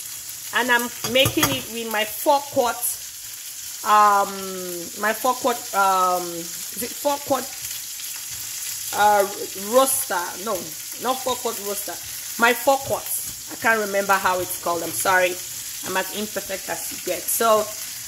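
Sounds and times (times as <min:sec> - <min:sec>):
chicken sizzling in a skillet: 0:00.0 - 0:18.0
woman speaking: 0:00.6 - 0:03.0, 0:03.8 - 0:07.5, 0:09.0 - 0:17.8.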